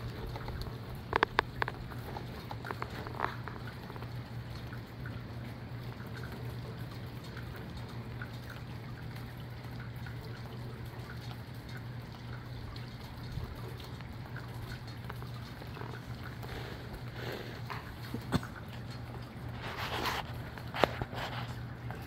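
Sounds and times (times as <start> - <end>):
steady rain falling: 0.0 - 22.0
water dripping and trickling: 0.0 - 22.0.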